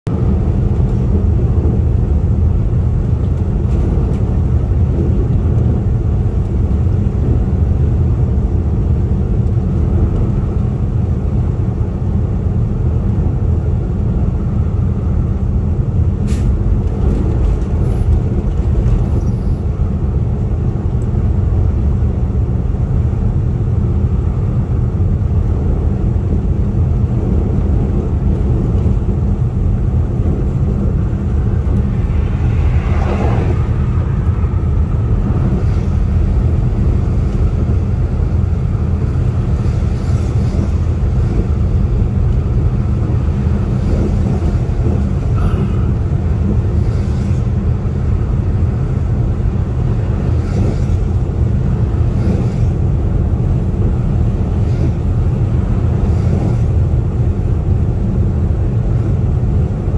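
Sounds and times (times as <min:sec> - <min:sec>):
vehicle interior road rumble: 0:00.0 - 0:59.9.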